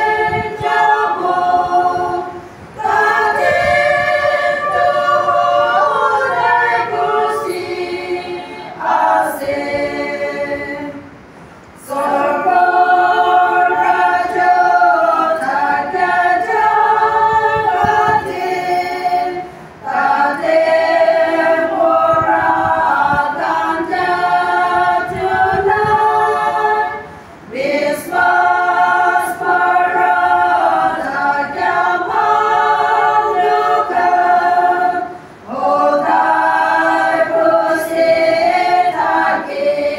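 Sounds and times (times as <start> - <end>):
women's choir singing a cappella: 0.0 - 39.9.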